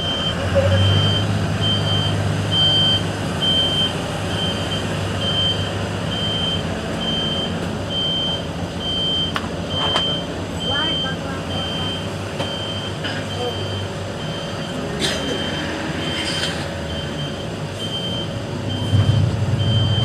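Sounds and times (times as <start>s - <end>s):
diesel engine running: 0.0s - 20.0s
reversing alarm beeping: 0.0s - 20.0s.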